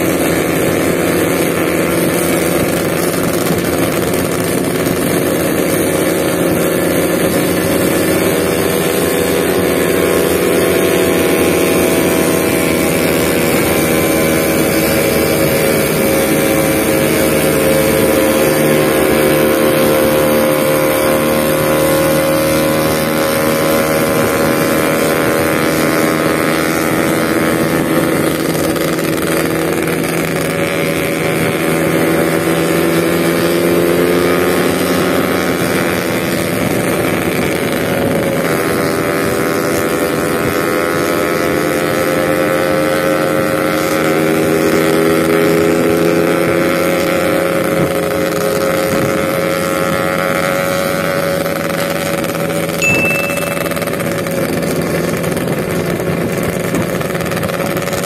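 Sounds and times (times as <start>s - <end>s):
two-stroke motorcycle engine: 0.0s - 58.0s
wind and road noise: 0.0s - 58.0s.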